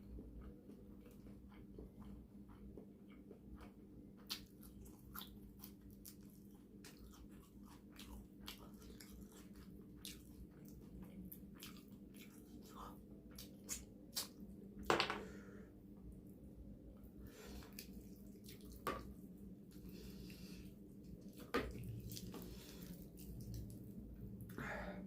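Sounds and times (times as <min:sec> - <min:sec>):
person chewing food: 0:00.0 - 0:14.6, 0:16.9 - 0:24.5.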